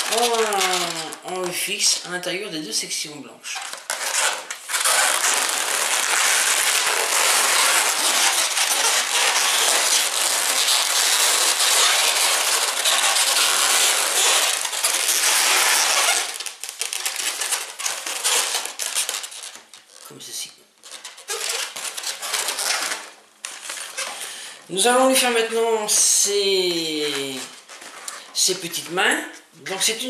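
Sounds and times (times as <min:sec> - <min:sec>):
balloons rubbing and squeaking: 0:00.0 - 0:02.6, 0:03.5 - 0:30.0.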